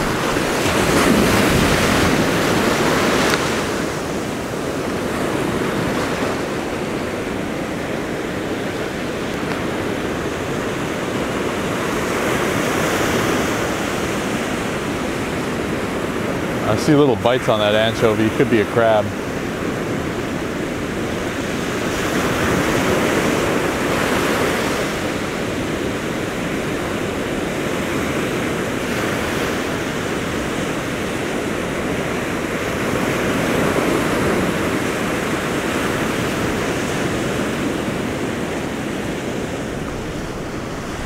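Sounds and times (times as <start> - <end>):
ocean surf breaking: 0.0 - 41.0.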